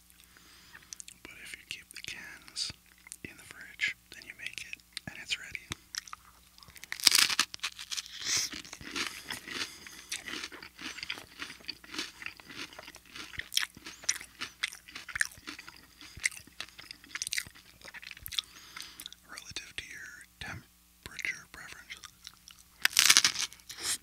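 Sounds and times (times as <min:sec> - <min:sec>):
chewing crisp cracker: 0:00.1 - 0:03.3, 0:04.4 - 0:19.4, 0:21.1 - 0:24.0.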